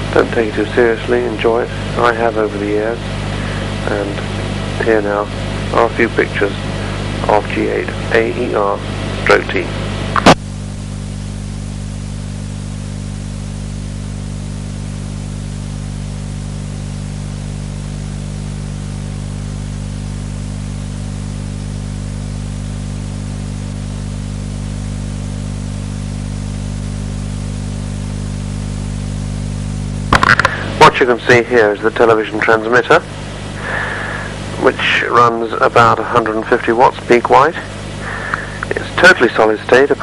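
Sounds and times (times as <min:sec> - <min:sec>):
low hum with hiss: 0:00.0 - 0:40.0.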